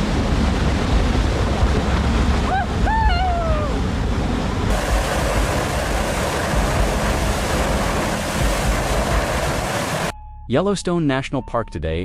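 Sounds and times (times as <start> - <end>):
geyser rushing water and steam: 0.0 - 10.1.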